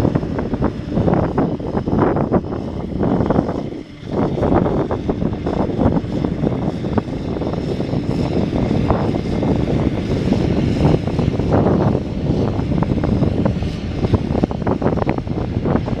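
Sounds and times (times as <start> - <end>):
truck diesel engine running: 0.0 - 16.0
wind buffeting microphone: 0.0 - 16.0.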